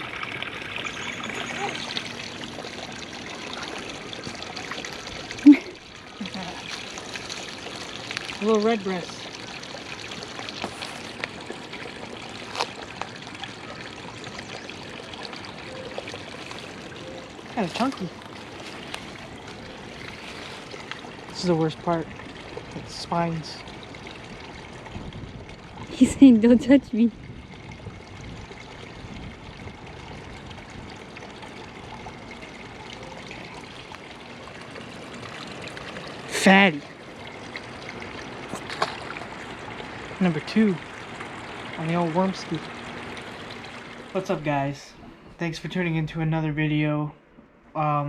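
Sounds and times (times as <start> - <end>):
running water trickling: 0.0 - 48.0.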